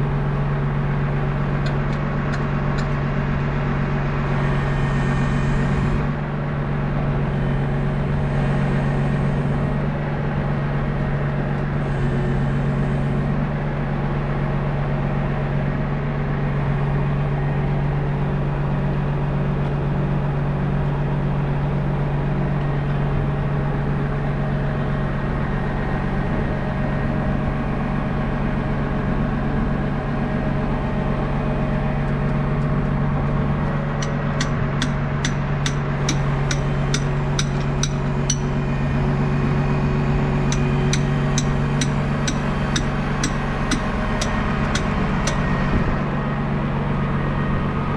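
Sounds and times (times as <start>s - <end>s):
hydraulics working: 0.0s - 47.9s
truck engine running: 0.0s - 47.9s.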